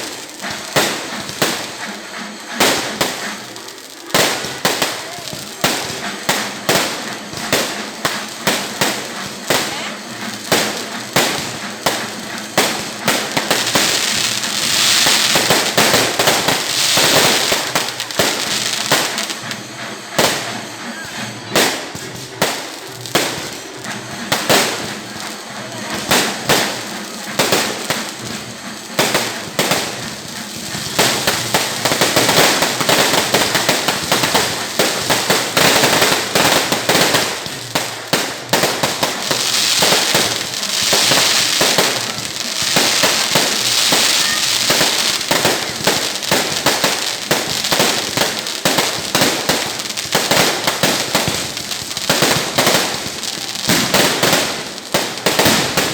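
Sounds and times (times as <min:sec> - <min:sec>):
fireworks bangs: 0:00.0 - 0:55.9
hissing crackle: 0:00.0 - 0:55.9.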